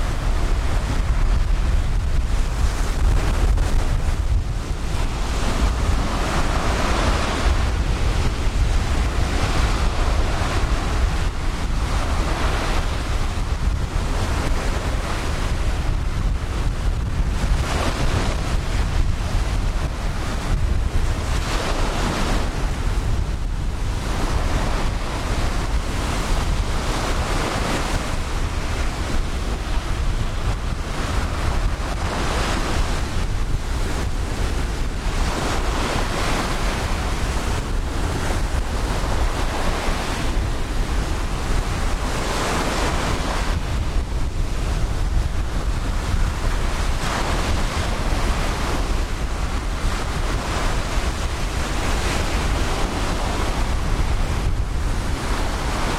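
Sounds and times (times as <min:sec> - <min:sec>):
ocean surf breaking: 0:00.0 - 0:55.9
wind rumbling on microphone: 0:00.0 - 0:55.9.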